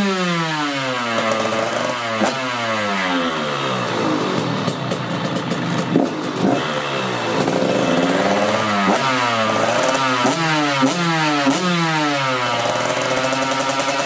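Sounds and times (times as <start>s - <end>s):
two-stroke dirt bike engine revving: 0.0s - 14.0s.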